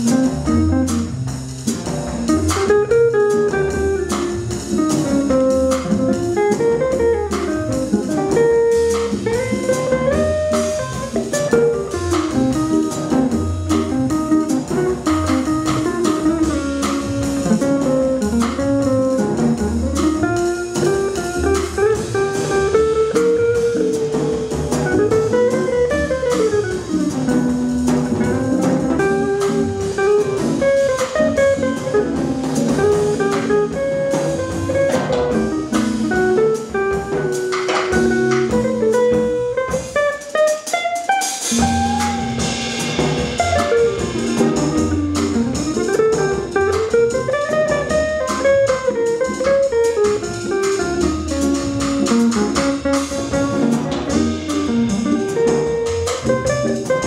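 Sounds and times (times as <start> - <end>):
drums with cymbal ride: 0.0 - 57.0
jazz guitar line: 0.0 - 57.0
walking upright bass: 0.0 - 57.0.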